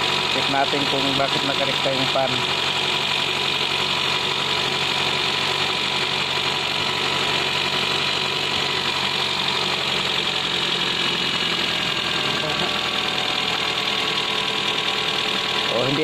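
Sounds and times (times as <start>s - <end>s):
car engine fast idle: 0.0s - 16.0s
radiator fan whirring: 0.0s - 16.0s.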